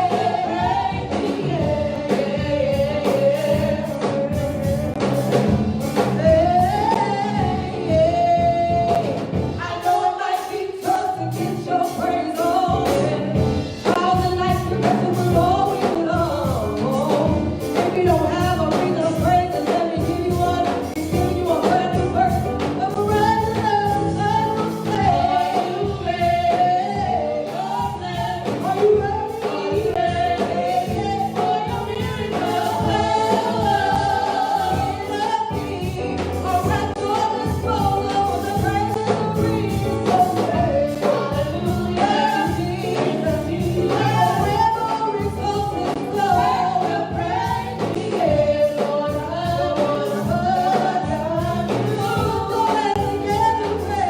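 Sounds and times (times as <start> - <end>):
gospel worship music: 0.0 - 54.0
voices singing: 0.0 - 54.0.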